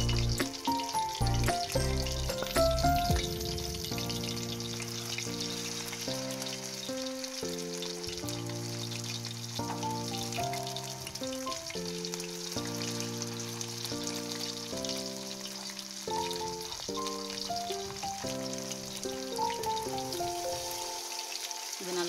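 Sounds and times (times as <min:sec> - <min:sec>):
fish sizzling in hot oil: 0:00.0 - 0:22.0
slow background music: 0:00.0 - 0:22.0.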